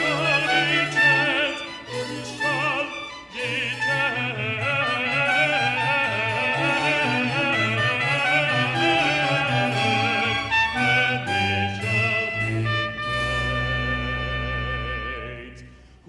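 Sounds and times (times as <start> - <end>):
baroque orchestral music: 0.0 - 16.0.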